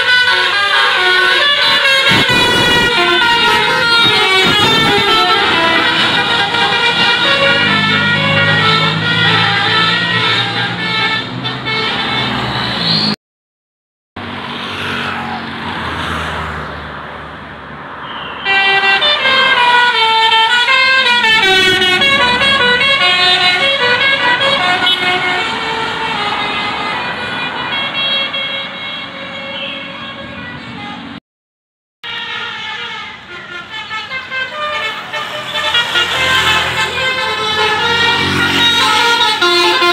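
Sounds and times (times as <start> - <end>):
musical air horn melody: 0.0 - 12.6, 18.0 - 31.0, 32.0 - 39.9
vehicle noise: 0.0 - 13.2, 14.2 - 31.2, 32.0 - 39.9.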